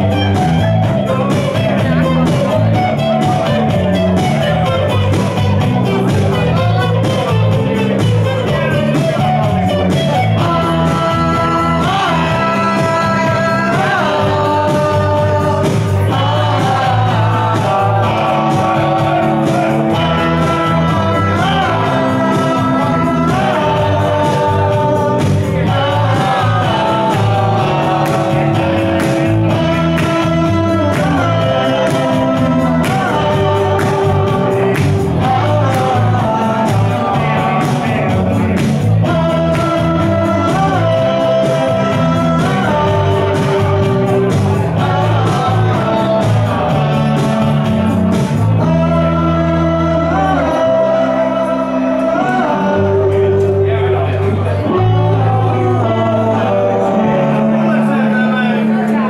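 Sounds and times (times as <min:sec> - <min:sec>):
live rock electric guitars: 0:00.0 - 0:59.0
man singing: 0:00.0 - 0:59.0.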